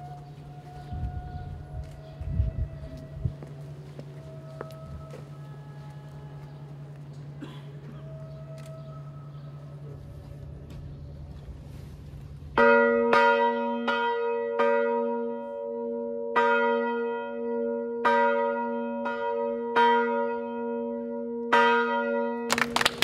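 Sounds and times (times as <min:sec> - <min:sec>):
church bell ringing: 0:00.0 - 0:10.7, 0:12.4 - 0:22.7.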